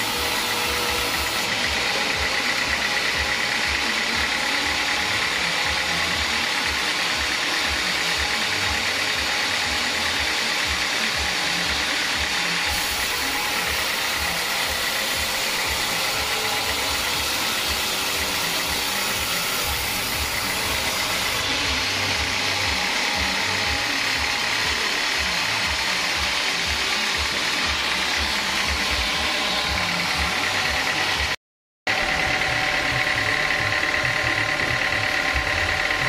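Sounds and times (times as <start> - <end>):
band saw cutting log: 0.0 - 36.0.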